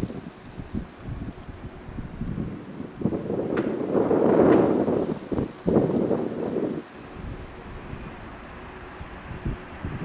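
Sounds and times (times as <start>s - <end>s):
distant jet engines: 0.0s - 10.0s
wind buffeting microphone: 0.0s - 10.0s.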